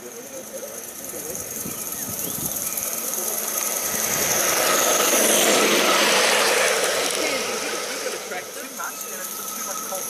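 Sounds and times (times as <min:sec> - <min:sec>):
model steam locomotive running past: 0:00.0 - 0:10.0.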